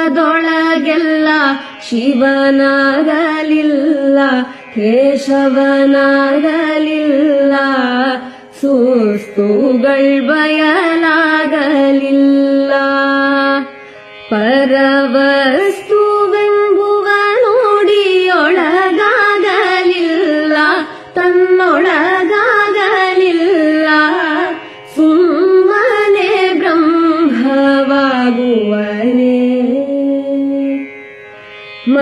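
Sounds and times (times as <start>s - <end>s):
person singing devotional song: 0.0s - 30.9s.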